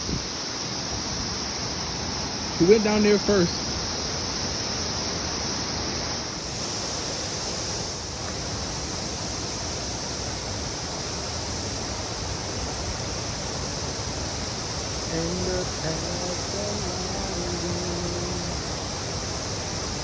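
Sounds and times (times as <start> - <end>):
cicadas droning: 0.0 - 20.0
flowing water rushing: 0.0 - 20.0.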